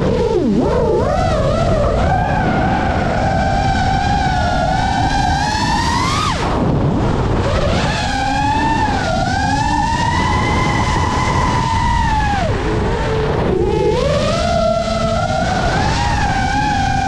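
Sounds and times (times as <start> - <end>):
drone motors whining: 0.0 - 17.0
low wind rumble: 0.0 - 17.0.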